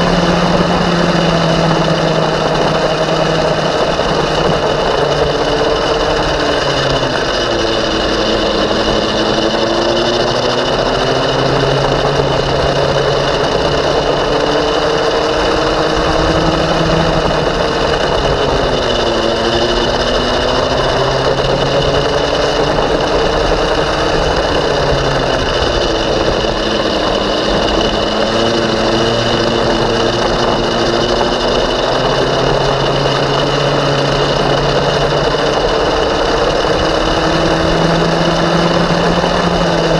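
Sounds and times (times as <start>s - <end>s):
kart engine at speed: 0.0s - 39.9s.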